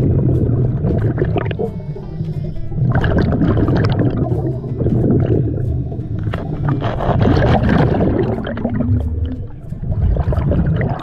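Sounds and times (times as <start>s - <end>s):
underwater regulator bubbles gurgling: 0.0s - 11.0s.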